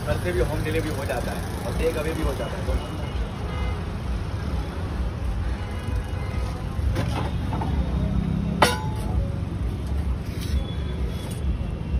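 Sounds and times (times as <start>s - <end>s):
road traffic rumble: 0.0s - 11.9s.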